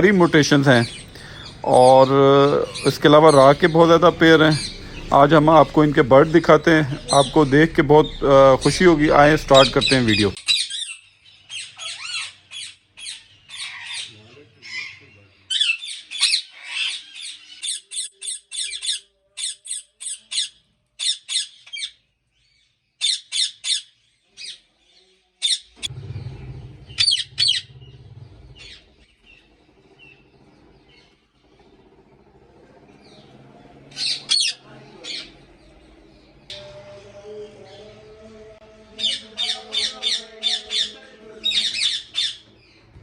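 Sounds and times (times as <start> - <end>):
parakeets squawking: 0.0 - 22.0, 26.8 - 32.2, 33.0 - 36.7, 39.0 - 42.8.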